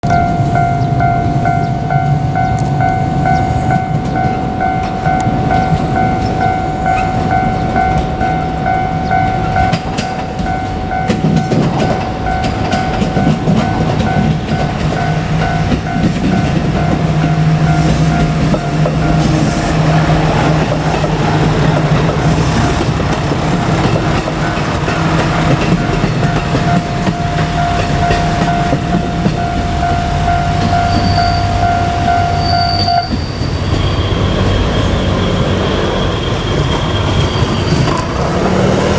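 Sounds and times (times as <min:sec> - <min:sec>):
diesel railcar engine: 0:00.0 - 0:38.9
level crossing warning bell: 0:00.0 - 0:38.9
train wheels on rails: 0:00.0 - 0:38.9.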